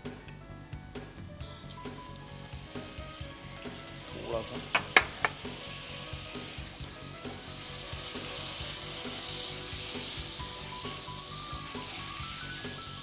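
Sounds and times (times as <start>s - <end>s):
paste sizzling in a frying pan: 1.0s - 13.0s.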